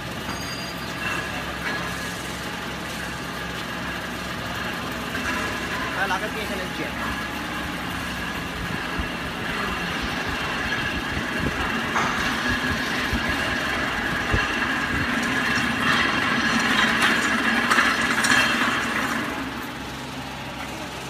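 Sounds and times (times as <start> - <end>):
hydraulic motor and pump whine: 0.0 - 21.0.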